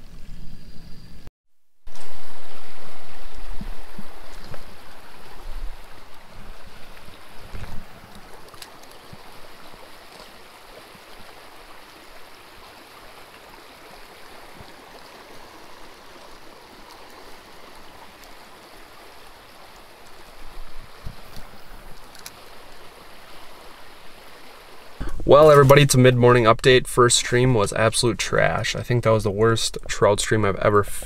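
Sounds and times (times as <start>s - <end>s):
stream babbling over gravel: 1.9s - 30.8s.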